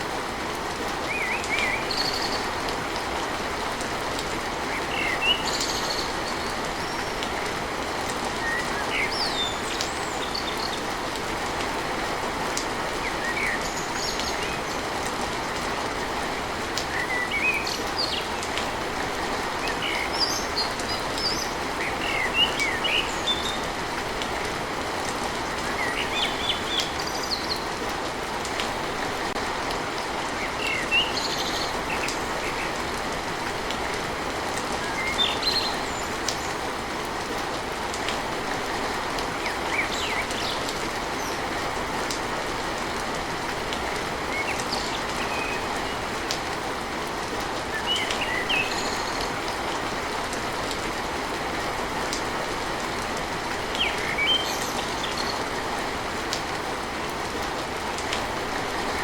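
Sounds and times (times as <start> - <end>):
rain drumming on a tin roof: 0.0 - 59.0.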